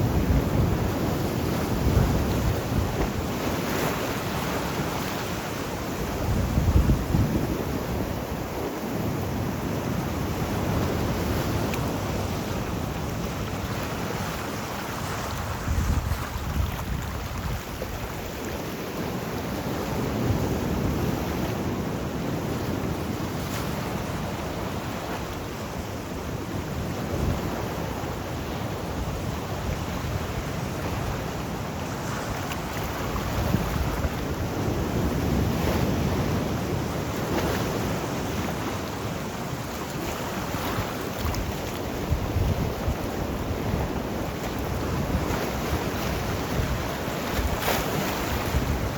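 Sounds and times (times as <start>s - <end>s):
wind buffeting microphone: 0.0s - 18.8s, 26.3s - 48.9s
sea waves breaking: 0.0s - 48.9s.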